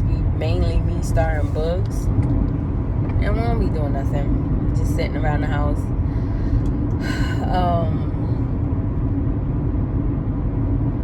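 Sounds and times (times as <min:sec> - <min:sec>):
faint steady hum: 0:00.0 - 0:11.0
road and engine rumble in car: 0:00.0 - 0:11.0.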